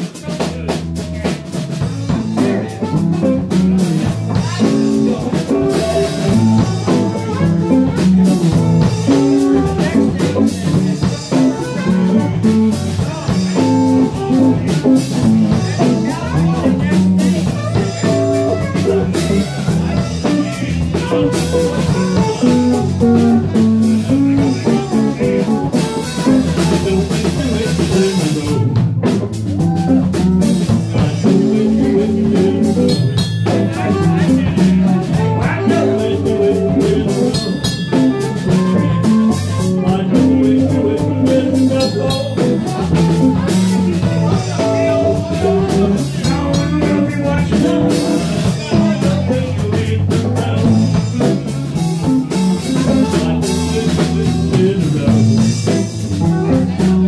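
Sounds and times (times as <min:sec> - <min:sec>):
drum kit: 0:00.0 - 0:57.0
guitar: 0:00.0 - 0:57.0
walking bass line: 0:00.0 - 0:57.0.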